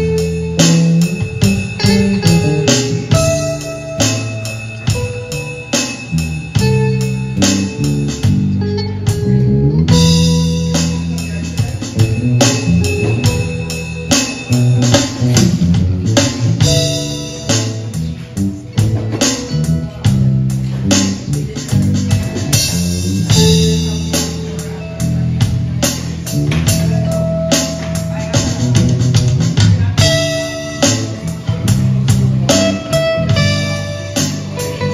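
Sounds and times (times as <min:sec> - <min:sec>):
drum beat: 0:00.0 - 0:24.8, 0:25.4 - 0:34.9
electric bass: 0:00.0 - 0:34.9
electric guitar: 0:00.0 - 0:34.9.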